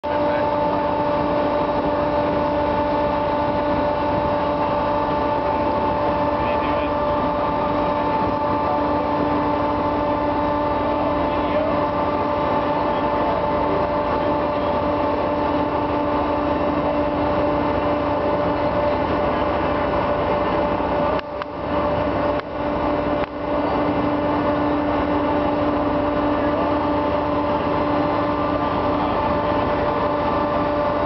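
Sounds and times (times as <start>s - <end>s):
ferry engines droning: 0.0s - 31.0s.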